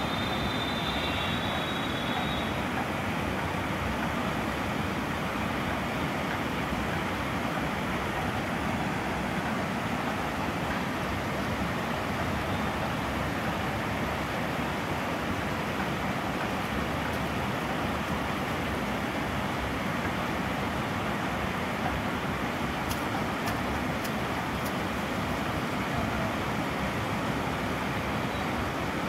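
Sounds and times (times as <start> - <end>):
water rushing over weir: 0.0 - 29.0.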